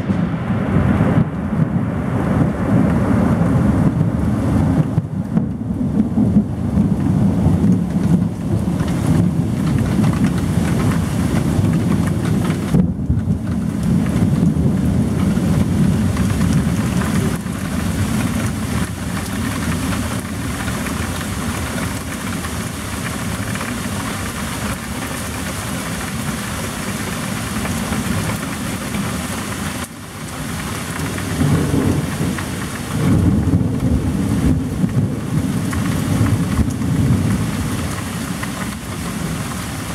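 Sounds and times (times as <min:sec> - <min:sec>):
heavy rain: 0:00.0 - 0:39.9
low thunder rumble: 0:00.0 - 0:39.9.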